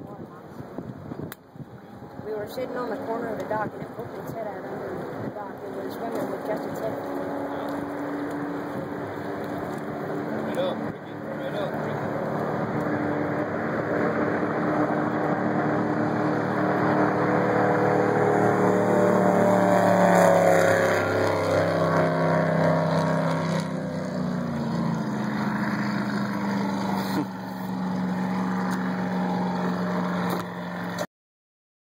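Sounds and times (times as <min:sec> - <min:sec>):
power boat engine passing: 0:01.5 - 0:31.0.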